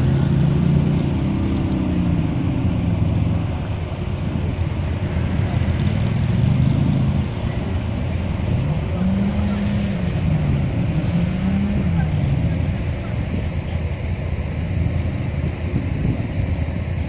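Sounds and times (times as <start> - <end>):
atv engines revving: 0.0 - 17.0.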